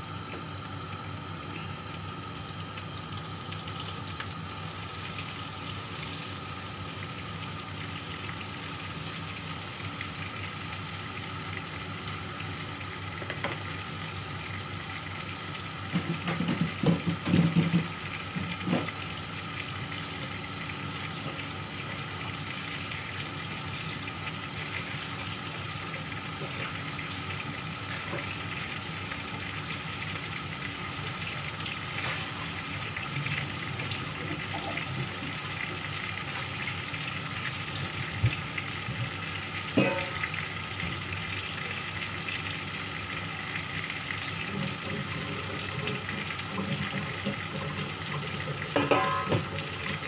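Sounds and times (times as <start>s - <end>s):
chicken sizzling in oil: 0.0s - 50.0s.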